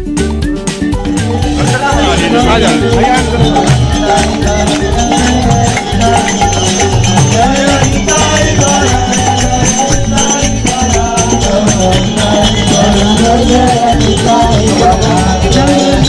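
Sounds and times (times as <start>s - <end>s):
loud music with a beat: 0.0s - 16.0s.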